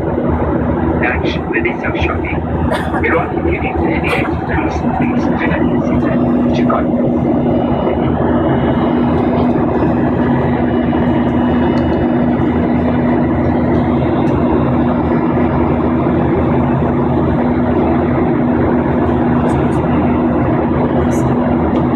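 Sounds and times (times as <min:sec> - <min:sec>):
airliner cabin engine drone: 0:00.0 - 0:21.9.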